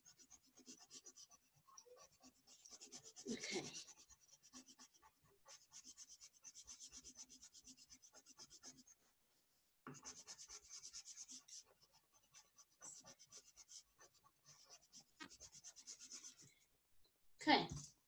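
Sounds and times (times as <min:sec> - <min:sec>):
pencil scribbling on paper: 0:00.0 - 0:09.2, 0:09.8 - 0:16.6.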